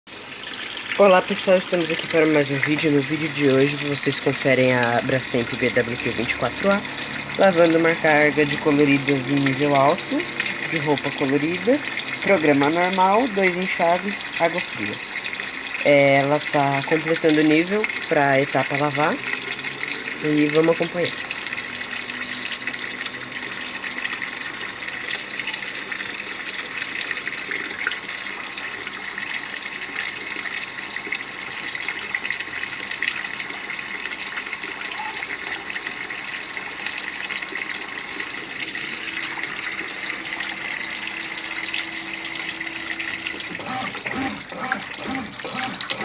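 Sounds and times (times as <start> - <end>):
water hissing into washing machine: 0.1 - 46.0.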